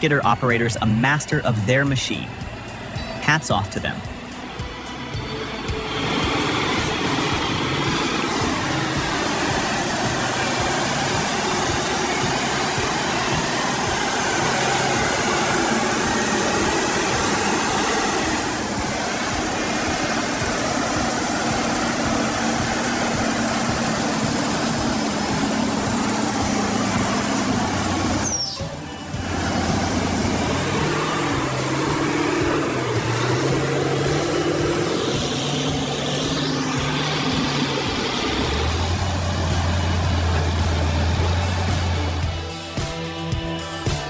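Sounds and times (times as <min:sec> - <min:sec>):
heavy machinery engine running: 0:00.0 - 0:44.0.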